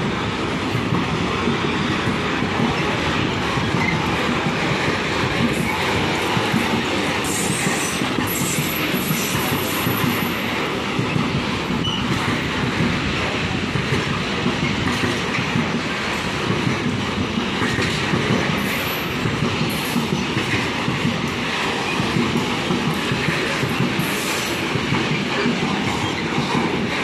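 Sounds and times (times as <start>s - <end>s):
train wheels rumbling over rail joints: 0.0s - 27.0s.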